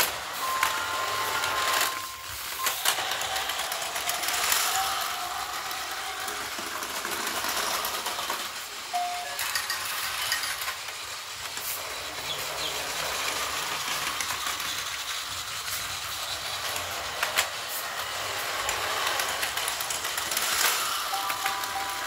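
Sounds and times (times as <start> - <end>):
toy train whirring rattle: 0.0 - 22.0.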